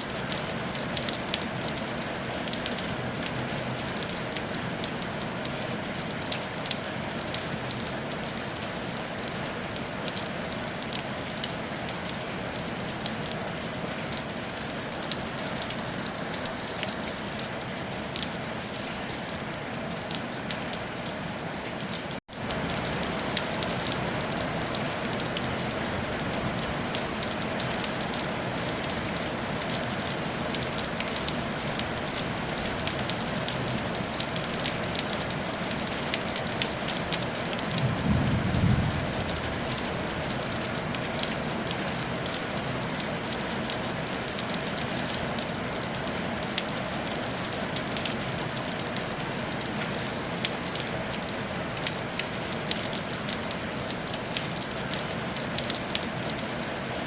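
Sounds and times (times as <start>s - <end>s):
rain on a tile roof: 0.0s - 57.0s.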